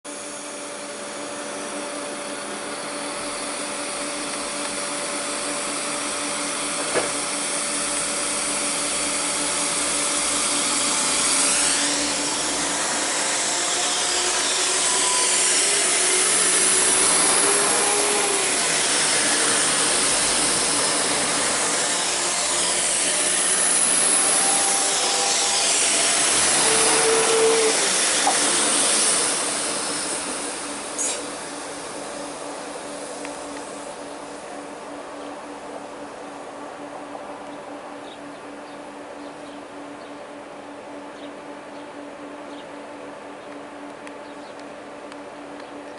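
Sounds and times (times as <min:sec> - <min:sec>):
diesel train engines accelerating: 0:00.1 - 0:45.9.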